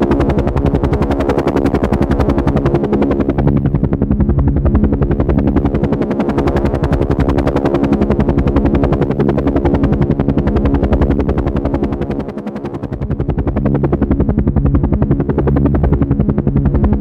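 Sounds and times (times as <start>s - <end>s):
helicopter engine hum: 0.0s - 17.0s
helicopter rotor chopping: 0.0s - 17.0s.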